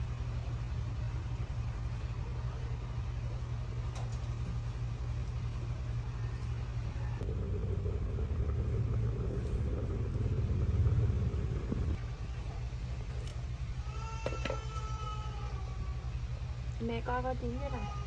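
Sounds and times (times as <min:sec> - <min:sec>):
low rumble: 0:00.0 - 0:17.6.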